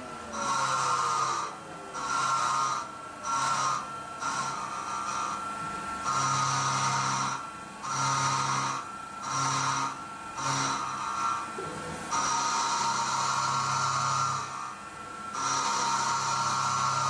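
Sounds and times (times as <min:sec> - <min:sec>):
cnc mill cutting metal: 0:00.0 - 0:17.0
high-pitched machining whine: 0:00.0 - 0:17.0.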